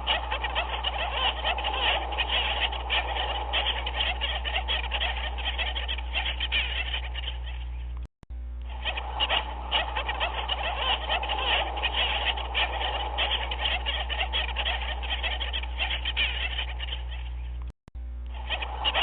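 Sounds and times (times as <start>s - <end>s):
penguins calling: 0.0s - 7.9s, 8.7s - 17.6s, 18.3s - 19.0s
steady low hum: 0.0s - 19.0s.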